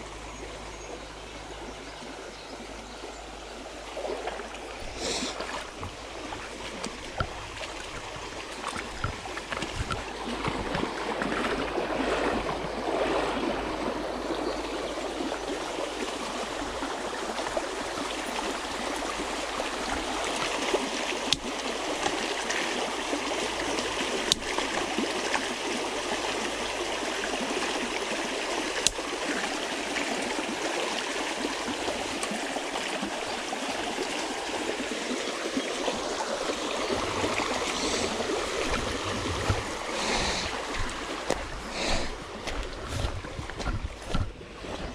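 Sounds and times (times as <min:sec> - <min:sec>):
creek water running over rocks: 0:00.0 - 0:44.9.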